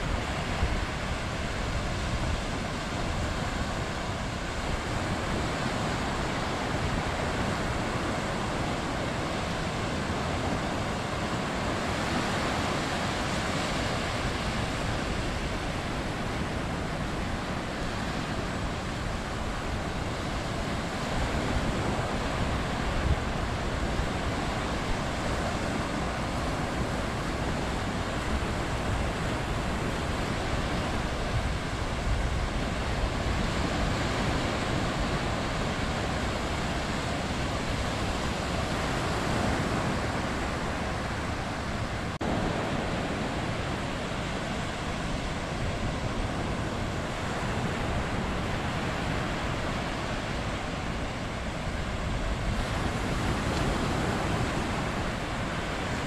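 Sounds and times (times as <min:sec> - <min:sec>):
small surf washing up beach: 0:00.0 - 0:56.0.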